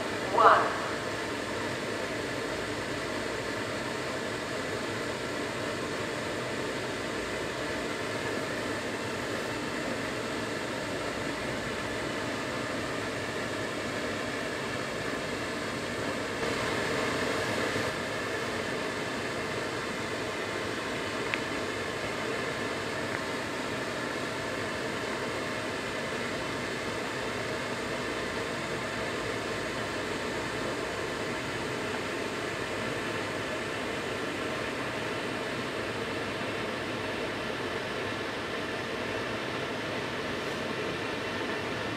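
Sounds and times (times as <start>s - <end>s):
train ventilation hiss: 0.0s - 41.9s.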